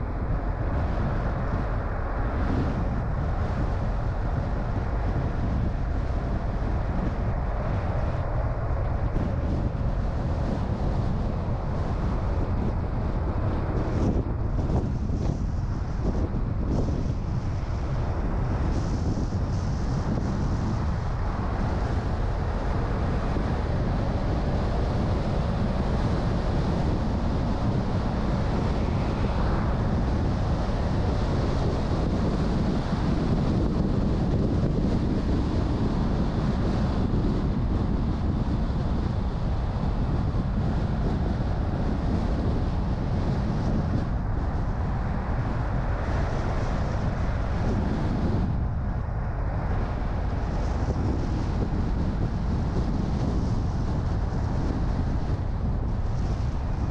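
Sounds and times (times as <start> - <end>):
car engine and tyres rumbling: 0.0 - 56.9
wind noise: 0.0 - 56.9.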